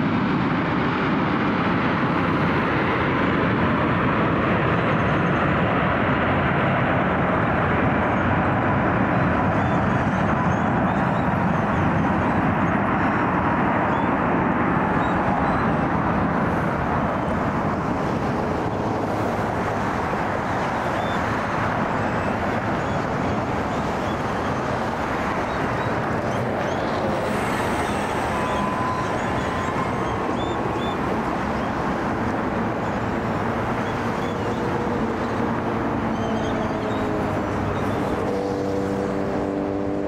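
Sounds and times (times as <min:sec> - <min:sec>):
jet engines taxiing: 0:00.0 - 0:40.0.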